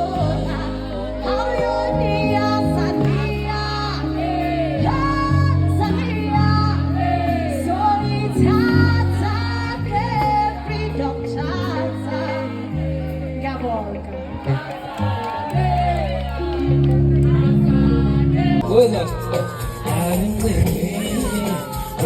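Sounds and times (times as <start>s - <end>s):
woman singing: 0.0s - 14.6s, 15.6s - 22.0s
sustained bass notes: 0.0s - 22.0s.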